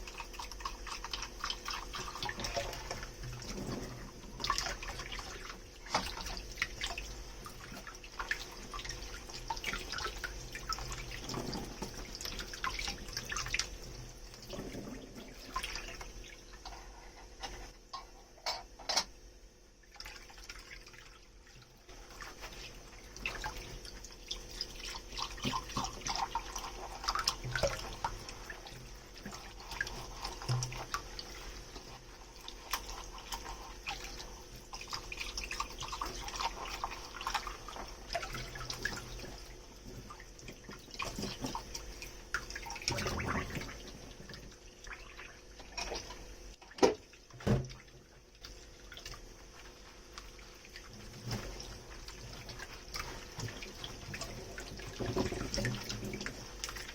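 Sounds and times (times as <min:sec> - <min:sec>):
water splashing and dripping: 0:00.0 - 0:16.8, 0:19.8 - 0:56.9.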